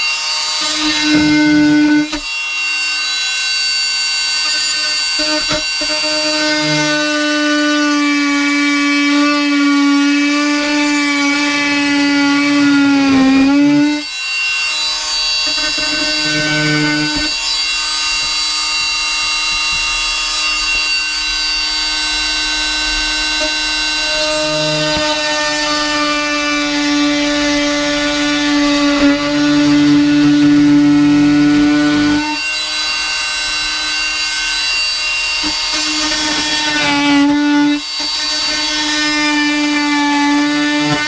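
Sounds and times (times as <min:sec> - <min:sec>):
power tool cutting wood: 0:00.0 - 0:41.0.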